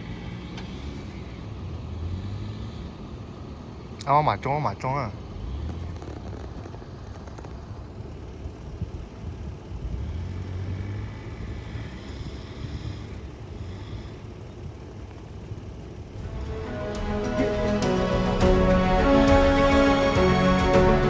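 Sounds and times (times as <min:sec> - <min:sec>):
truck engine low rumble: 0:00.0 - 0:21.0.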